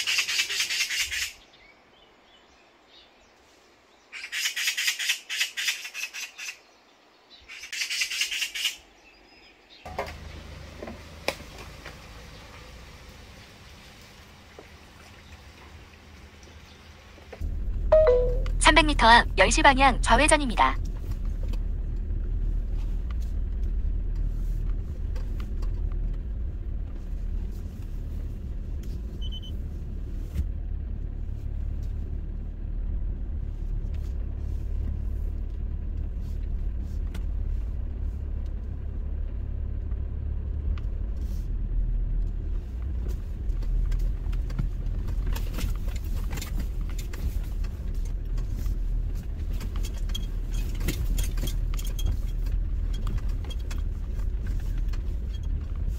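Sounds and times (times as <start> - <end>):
car engine and tyres rumbling: 0.0 - 55.9.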